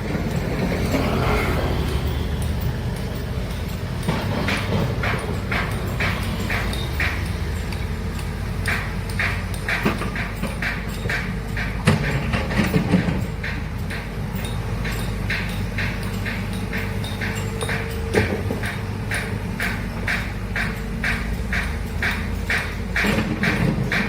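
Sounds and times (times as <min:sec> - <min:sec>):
diesel engine running: 0:00.0 - 0:24.0
metallic clicks and clacks: 0:00.0 - 0:24.0.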